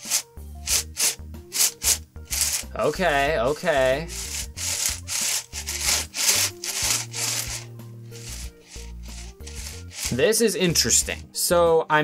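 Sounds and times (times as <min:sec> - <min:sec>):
puzzle cube turning: 0:00.0 - 0:10.2.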